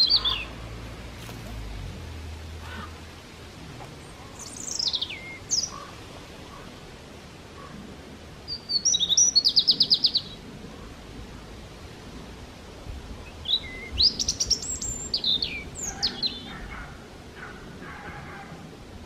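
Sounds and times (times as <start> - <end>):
songbird singing: 0.0 - 11.9, 13.1 - 18.5.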